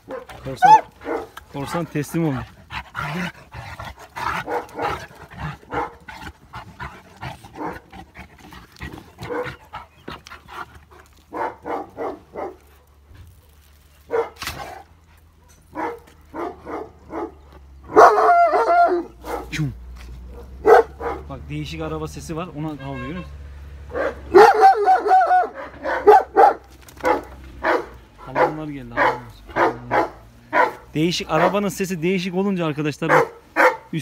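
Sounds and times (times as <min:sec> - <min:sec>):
dogs barking: 0:00.0 - 0:19.6, 0:20.2 - 0:21.4, 0:23.8 - 0:32.2, 0:33.0 - 0:34.0
drawn-out dog bark: 0:00.0 - 0:21.5, 0:23.6 - 0:34.0.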